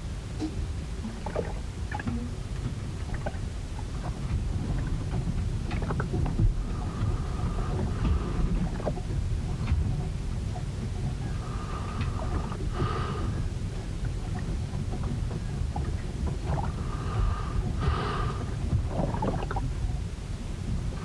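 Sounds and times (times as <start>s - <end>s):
wind and water against hull: 0.0s - 21.0s.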